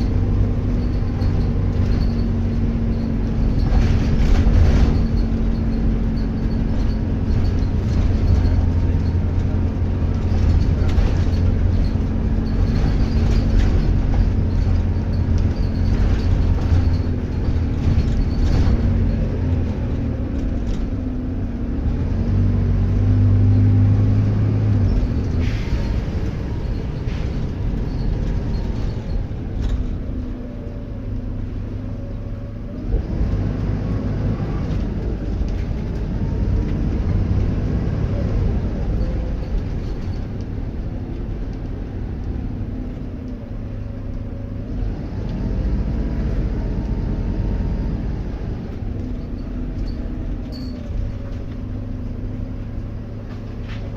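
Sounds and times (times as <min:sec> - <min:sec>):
diesel bus engine running: 0:00.0 - 0:53.9.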